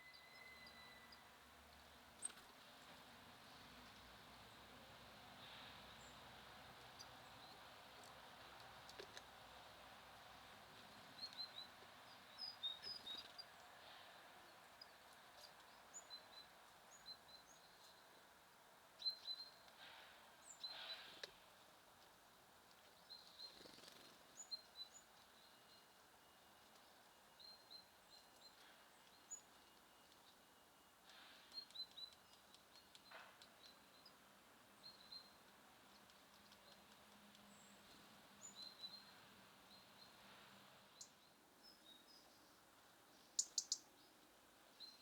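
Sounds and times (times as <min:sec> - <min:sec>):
low steady hiss: 0:00.0 - 0:45.0
songbirds chirping: 0:00.0 - 0:45.0.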